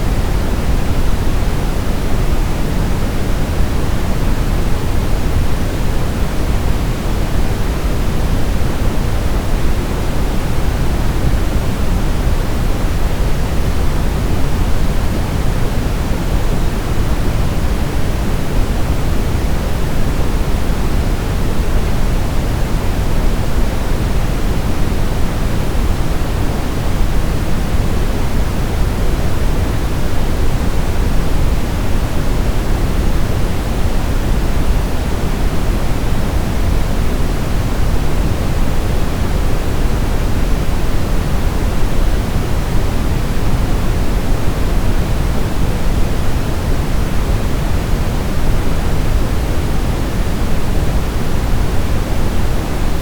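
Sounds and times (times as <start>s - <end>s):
brown noise hiss: 0.0s - 53.0s.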